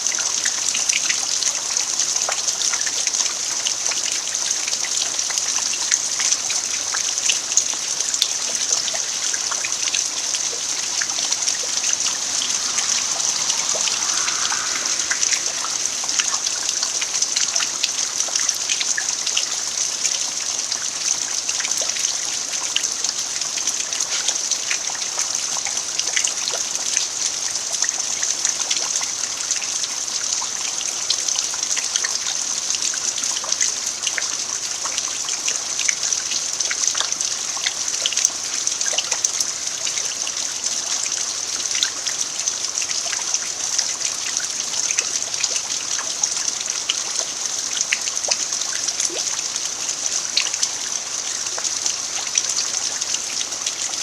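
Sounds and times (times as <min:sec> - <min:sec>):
rain falling on bare earth: 0:00.0 - 0:54.0.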